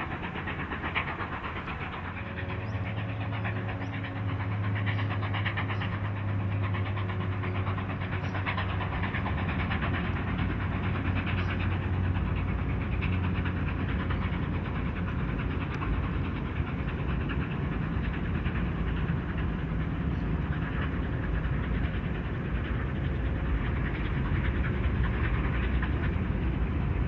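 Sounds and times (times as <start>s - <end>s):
steam locomotive chuffing: 0.0s - 27.0s
train rumbling on bridge: 0.0s - 27.0s.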